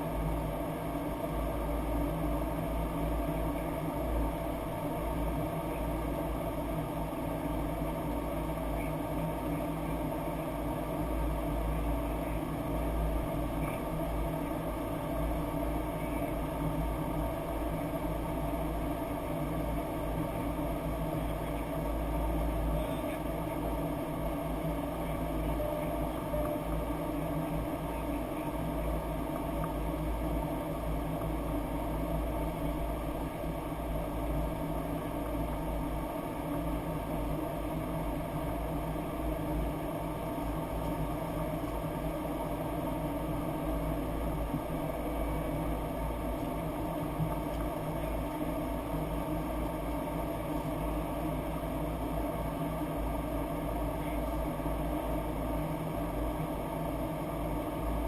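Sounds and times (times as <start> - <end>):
faint steady tones: 0.0 - 58.0
low hum: 0.0 - 58.0.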